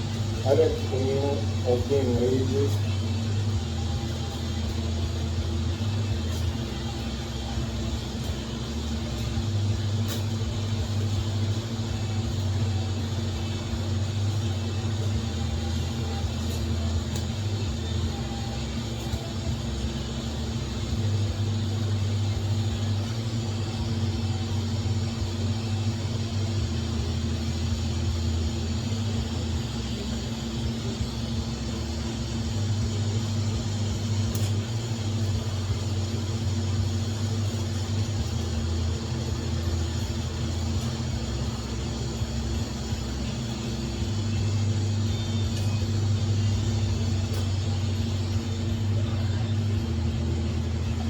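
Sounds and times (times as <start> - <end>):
arc welding buzz: 0.0 - 51.0
welding hiss: 0.0 - 51.0.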